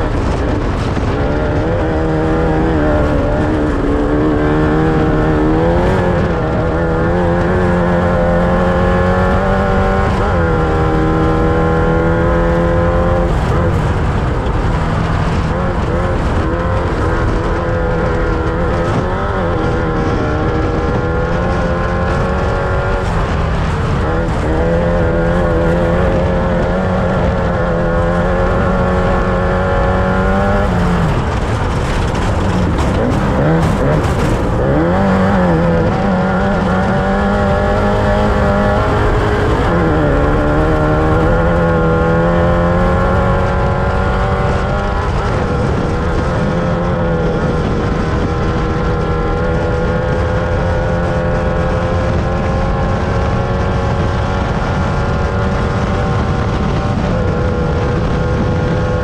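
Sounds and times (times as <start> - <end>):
race vehicle engine revving: 0.0 - 59.0.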